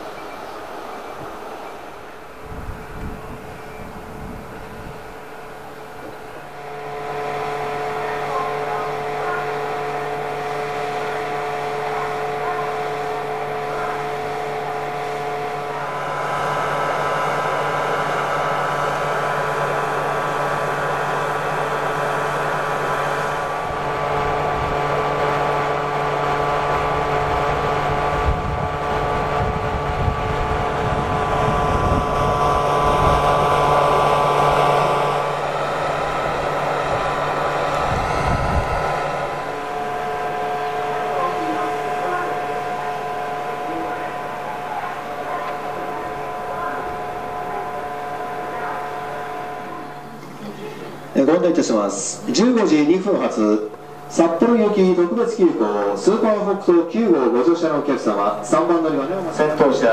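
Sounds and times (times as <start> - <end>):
train wheels rumbling on rails: 0.0 - 56.8
electric train hum and whine: 0.0 - 59.9.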